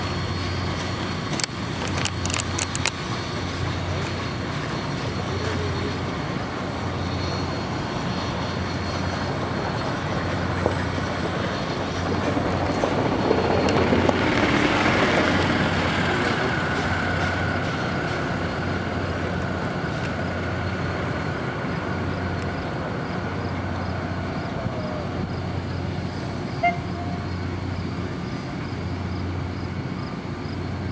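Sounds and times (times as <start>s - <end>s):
steam locomotive running: 0.0s - 30.9s.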